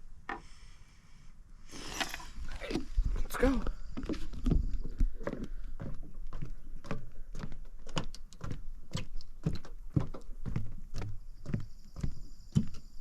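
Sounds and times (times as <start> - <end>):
footsteps on a hard surface: 2.0 - 13.0.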